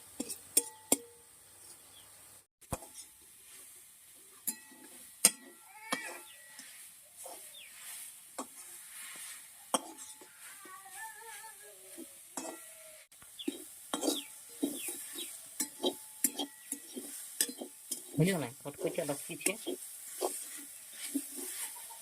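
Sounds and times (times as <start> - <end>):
faint frying sizzle: 0.0 - 22.0
spatula scraping a pan: 0.1 - 0.8, 2.6 - 3.8, 4.4 - 22.0.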